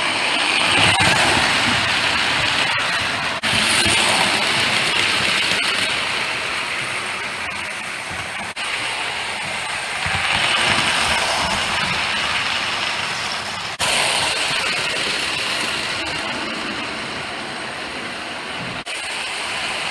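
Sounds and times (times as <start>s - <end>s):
wheels clattering on metal track: 0.0s - 19.8s
toy train motor whirring: 0.0s - 19.9s.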